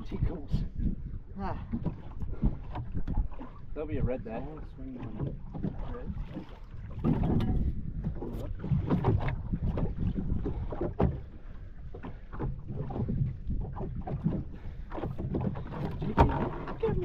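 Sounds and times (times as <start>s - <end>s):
wind on microphone: 0.0s - 4.5s, 5.1s - 17.0s
knocks and clatter on boat: 0.0s - 17.0s
water slapping boat hull: 0.0s - 17.0s.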